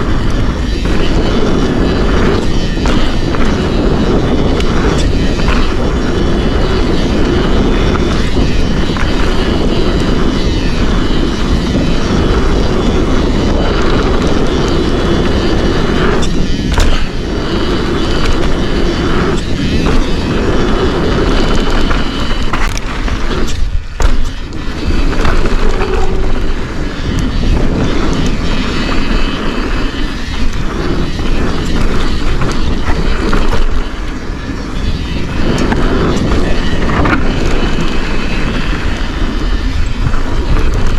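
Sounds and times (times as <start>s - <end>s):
bike rattling: 0.0s - 40.9s
tyre noise on dirt: 0.0s - 40.9s
wind buffeting microphone: 0.0s - 40.9s.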